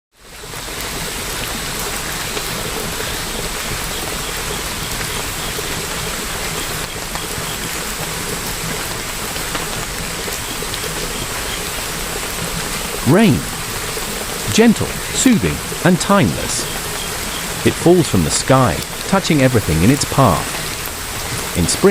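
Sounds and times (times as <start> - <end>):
steady rainfall: 0.2 - 21.9.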